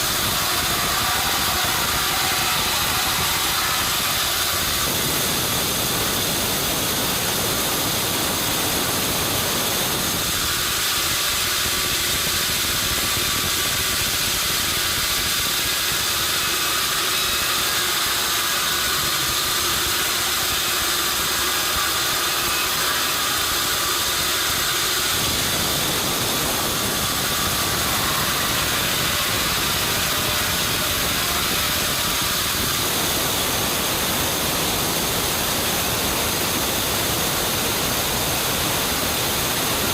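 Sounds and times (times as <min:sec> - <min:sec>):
sawmill motor and saw running: 0:00.0 - 0:39.9.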